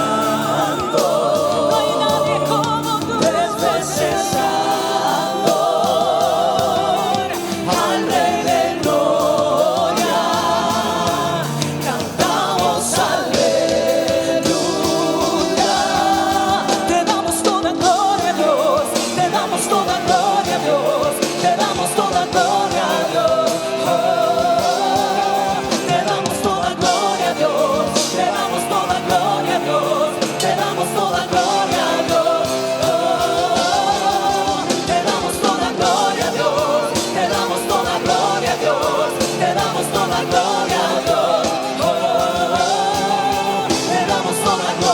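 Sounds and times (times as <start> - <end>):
band playing worship music: 0.0 - 44.9
held keyboard chords: 0.0 - 44.9
voices singing: 0.0 - 44.9.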